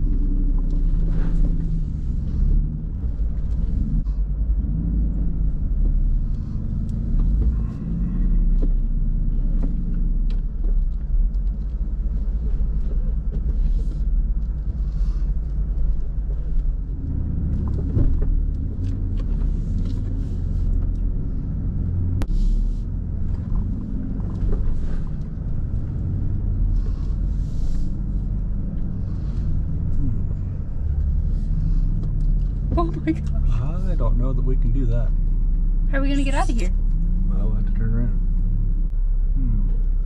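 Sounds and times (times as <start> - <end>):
vehicle engine low rumble: 0.0 - 40.0.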